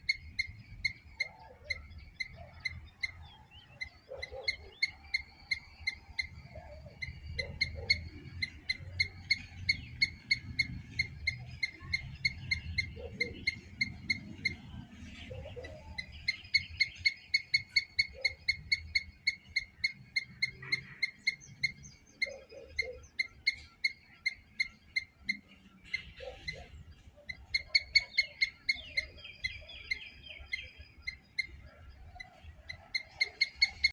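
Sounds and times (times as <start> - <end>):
squirrel chirping: 0.0 - 33.9.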